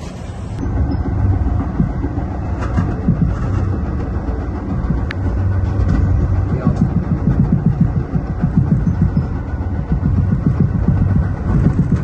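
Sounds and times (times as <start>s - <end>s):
commuter train rumbling: 0.0s - 12.0s.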